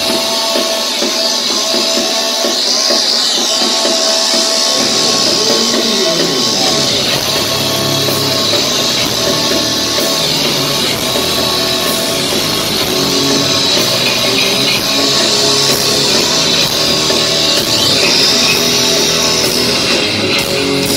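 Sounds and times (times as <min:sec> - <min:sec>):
distorted electric guitars: 0:00.0 - 0:20.9
drum kit: 0:00.0 - 0:20.9.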